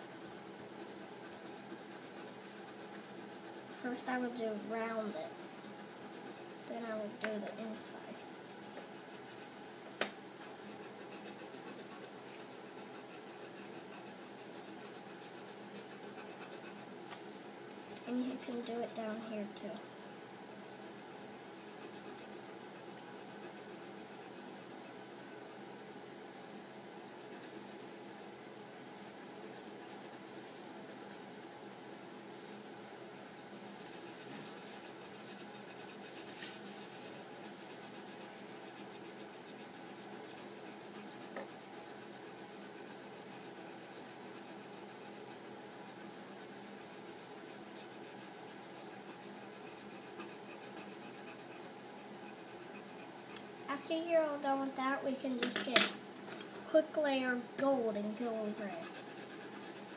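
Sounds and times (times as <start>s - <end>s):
colored pencil scratching on paper: 0.0s - 19.8s, 20.5s - 28.4s, 29.0s - 55.9s, 56.7s - 59.9s.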